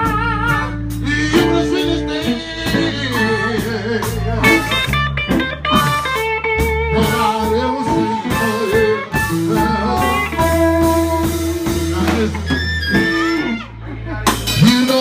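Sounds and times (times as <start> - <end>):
guitar: 0.0 - 15.0
live blues band: 0.0 - 15.0.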